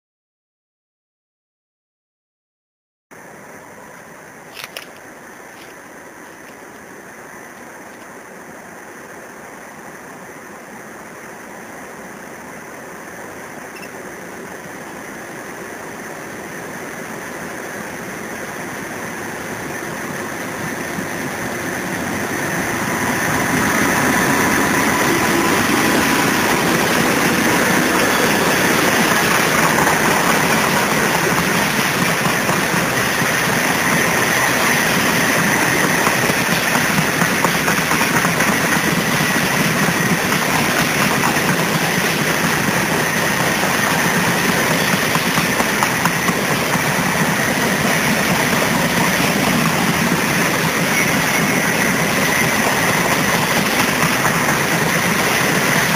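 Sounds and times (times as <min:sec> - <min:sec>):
freight train passing: 0:03.2 - 0:55.9.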